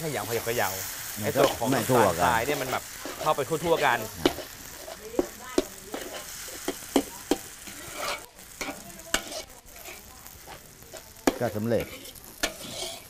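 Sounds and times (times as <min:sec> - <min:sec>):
noodles sizzling in a wok: 0:00.0 - 0:13.0
metal spatula scraping a pan: 0:00.1 - 0:13.0.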